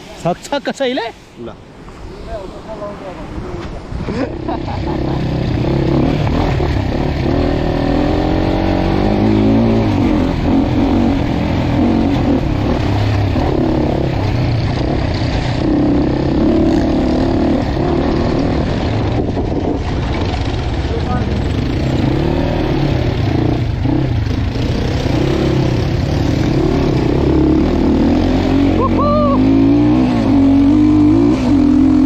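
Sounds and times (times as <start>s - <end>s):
dirt bike engine revving: 4.4s - 32.0s.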